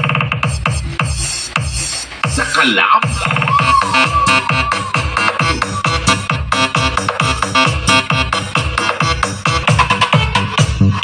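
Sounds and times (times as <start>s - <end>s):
electronic dance synths: 0.0s - 11.0s.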